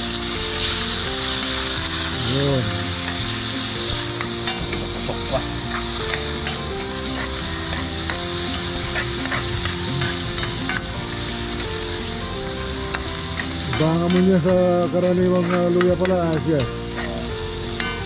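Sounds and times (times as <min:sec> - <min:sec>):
food sizzling in hot oil: 0:00.0 - 0:18.0
spatula scraping a wok: 0:00.6 - 0:14.3, 0:15.3 - 0:18.0.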